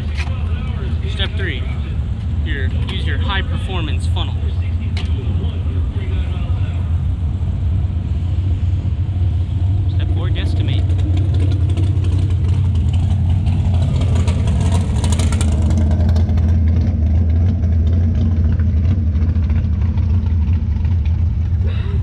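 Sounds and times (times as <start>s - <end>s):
car engines idling: 0.0s - 22.0s.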